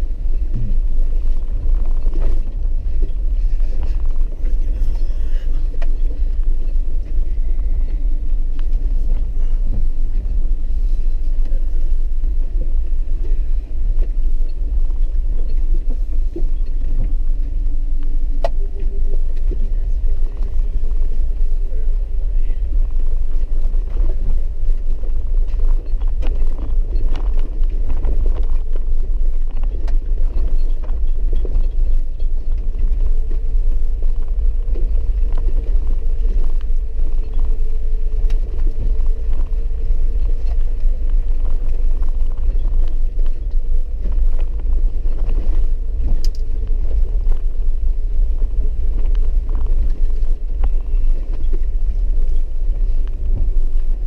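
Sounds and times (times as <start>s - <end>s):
faint steady whine: 0.0s - 54.0s
vehicle rumbling on dirt road: 0.0s - 54.0s.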